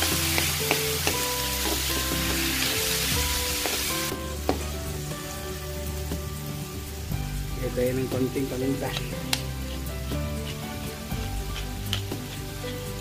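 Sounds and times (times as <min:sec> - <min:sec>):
background music: 0:00.0 - 0:13.0
vegetables sizzling in hot oil: 0:00.0 - 0:13.0.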